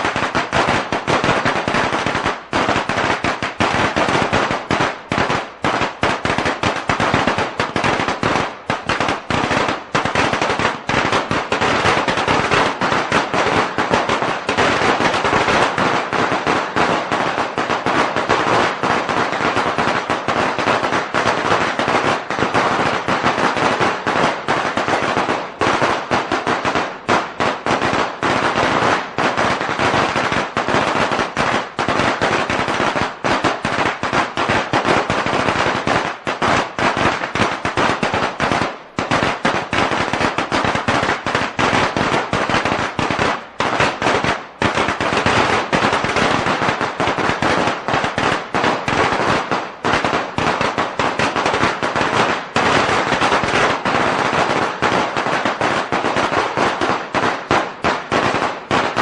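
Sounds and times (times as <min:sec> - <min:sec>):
firecrackers banging: 0:00.0 - 0:59.0.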